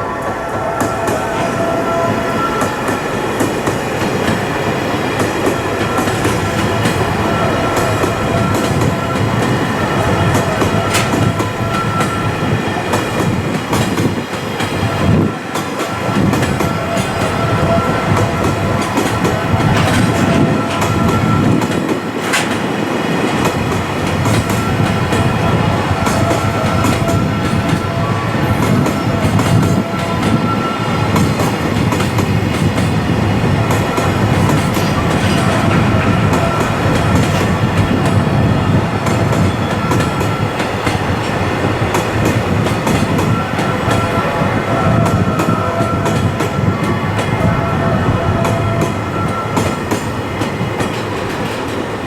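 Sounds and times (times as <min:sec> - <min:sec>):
freight train passing: 0:00.0 - 0:52.0
wheels clacking over rail joints: 0:01.9 - 0:47.4.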